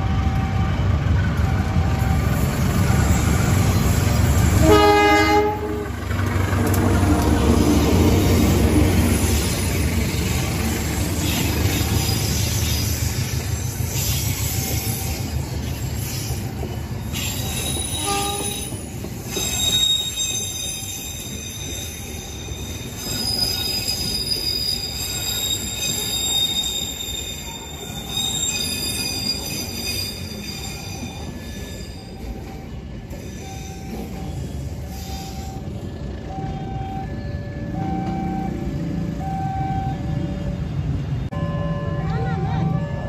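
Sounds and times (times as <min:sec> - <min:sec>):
train wheels squealing on rails: 0:00.0 - 0:43.0.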